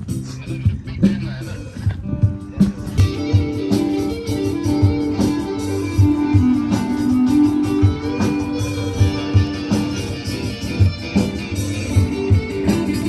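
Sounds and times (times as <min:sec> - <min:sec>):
guitar-led music: 0:00.0 - 0:13.0
steady drum beat: 0:00.0 - 0:13.0.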